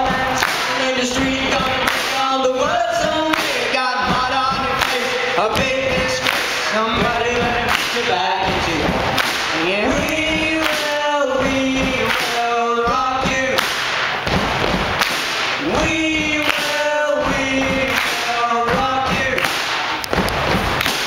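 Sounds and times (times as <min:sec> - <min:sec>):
men singing into microphones: 0:00.0 - 0:13.7, 0:15.6 - 0:20.0
beatboxed percussion: 0:00.0 - 0:21.0.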